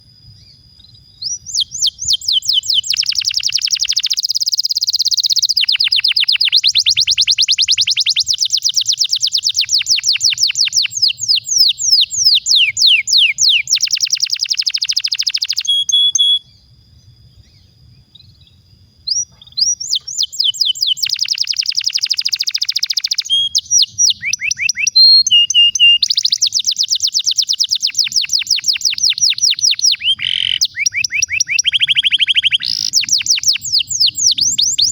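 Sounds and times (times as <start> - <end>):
canary singing trills: 1.2 - 16.6, 17.4 - 34.9.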